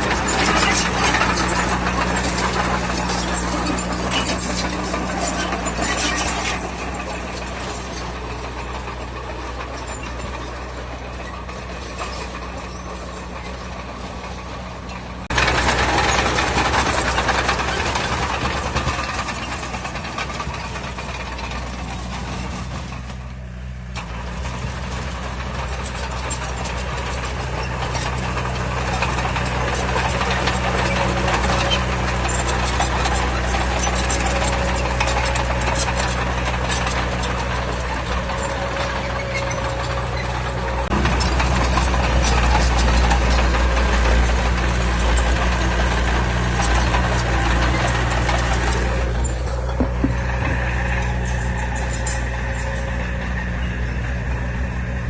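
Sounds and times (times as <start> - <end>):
diesel earthmoving machinery running: 0.0 - 55.0.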